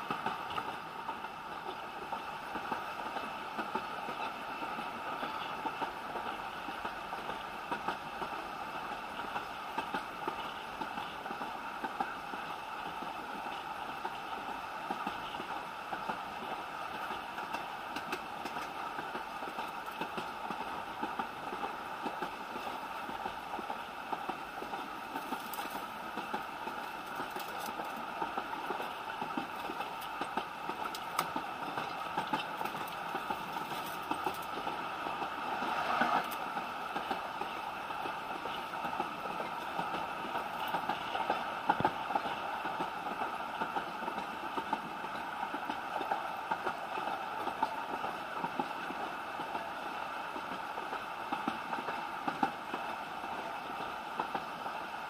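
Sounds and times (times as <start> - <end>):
railway carriage rumble and rattle: 0.0 - 55.0.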